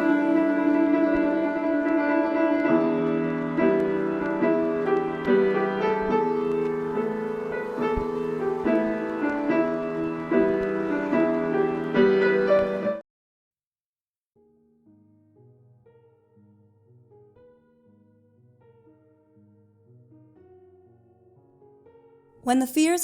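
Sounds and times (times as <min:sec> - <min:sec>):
slow piano music: 0:00.0 - 0:13.0, 0:14.4 - 0:23.0.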